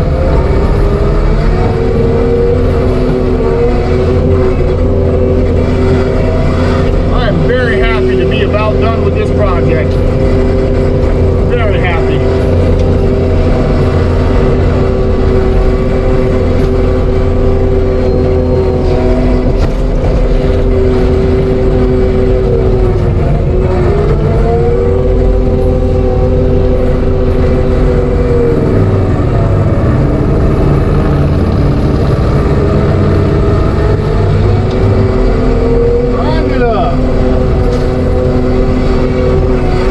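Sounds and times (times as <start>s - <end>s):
diesel engine running at high revs: 0.0s - 39.9s.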